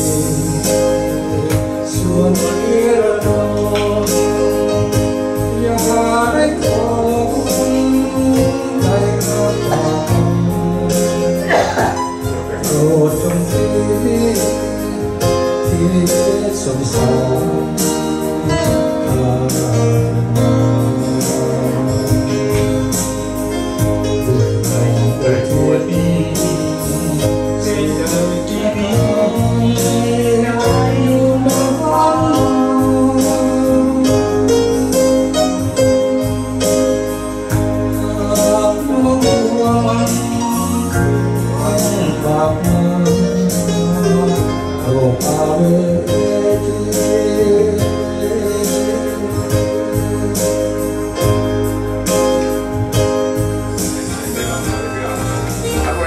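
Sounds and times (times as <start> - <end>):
electronic keyboard with beat: 0.0 - 56.0
man singing into microphone: 0.0 - 56.0.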